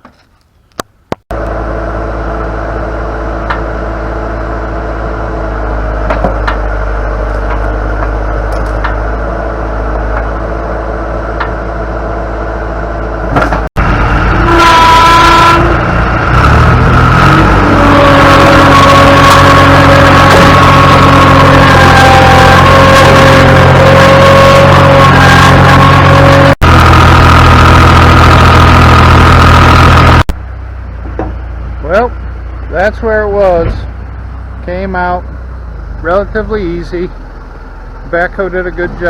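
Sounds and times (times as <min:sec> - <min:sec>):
diesel engine with high whine: 0:00.0 - 0:39.0.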